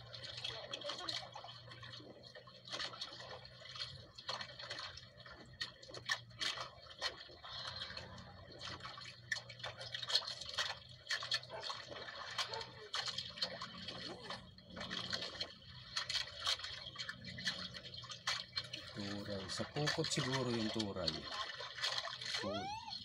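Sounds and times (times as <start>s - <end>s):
water drips: 0.0s - 23.0s
water lapping against boat hull: 0.0s - 23.0s.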